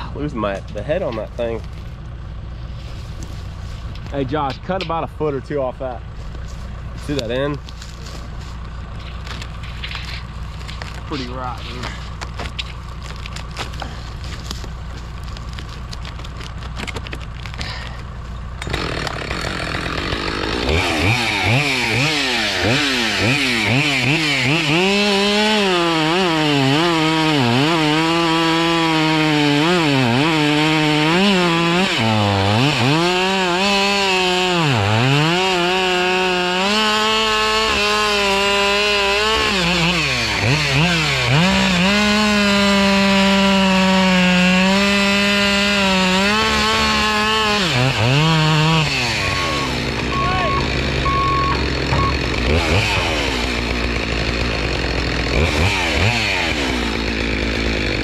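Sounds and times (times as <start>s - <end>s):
chainsaw cutting log: 2.7s - 58.0s.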